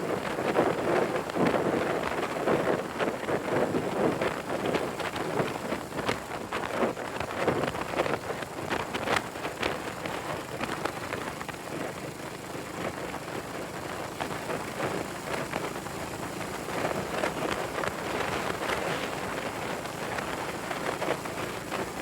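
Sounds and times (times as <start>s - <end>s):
motorcycle engine: 0.0s - 22.0s
wind buffeting microphone: 0.0s - 22.0s.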